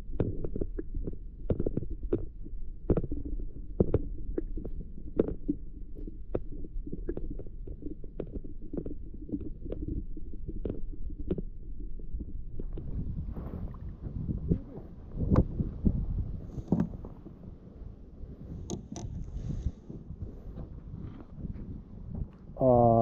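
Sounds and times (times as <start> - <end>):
underwater ticks and knocks: 0.0 - 17.6, 18.4 - 22.5
open-air water noise: 0.0 - 20.8
muffled underwater rumble: 0.0 - 23.0.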